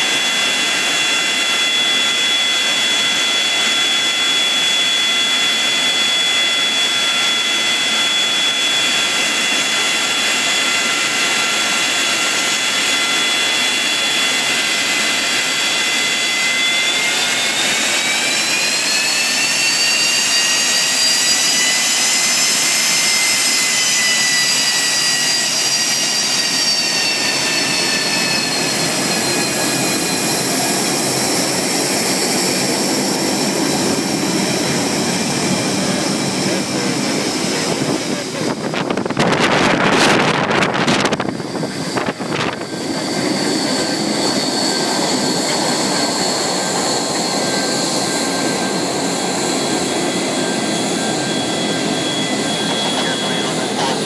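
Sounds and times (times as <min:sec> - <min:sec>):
jet engines running with whine: 0:00.0 - 0:54.0.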